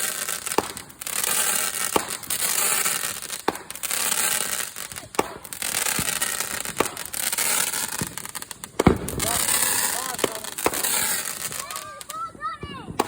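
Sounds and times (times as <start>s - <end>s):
crackling hiss of fireworks: 0.0s - 13.0s
firework bangs: 0.0s - 13.0s.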